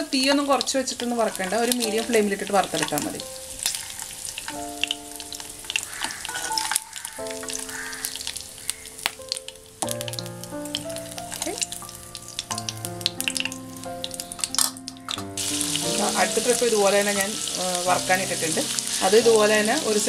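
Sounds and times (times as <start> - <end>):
background music with held notes: 0.0 - 20.0
meat sizzling in hot fat: 0.0 - 20.0.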